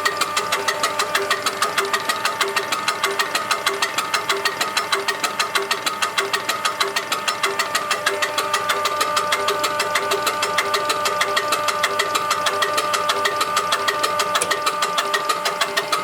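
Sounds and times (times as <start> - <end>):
fuel injection pump running: 0.0 - 16.0
sharp mechanical ticks: 0.0 - 16.0.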